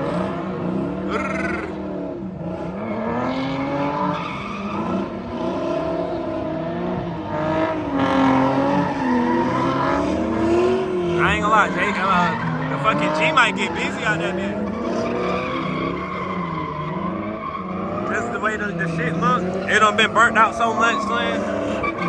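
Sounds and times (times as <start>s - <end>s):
car engine revving: 0.0s - 22.0s
tires squealing: 0.0s - 22.0s.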